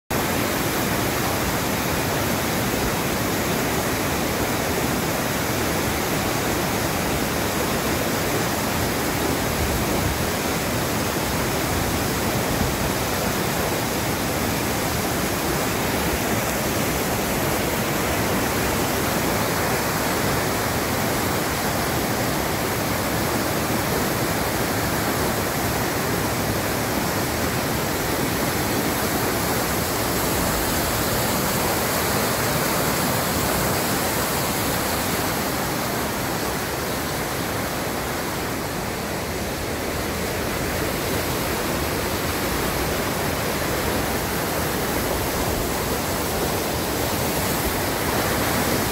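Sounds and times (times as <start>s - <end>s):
whitewater rushing: 0.1s - 48.9s.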